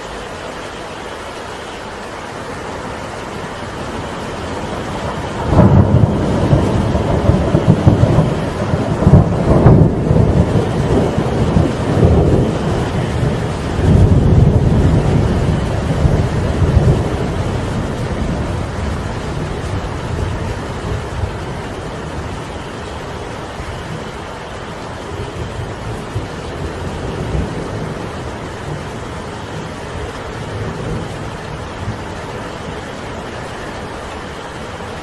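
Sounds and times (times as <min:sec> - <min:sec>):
steady rain: 0:00.0 - 0:35.0
thunder rumbling: 0:02.4 - 0:35.0.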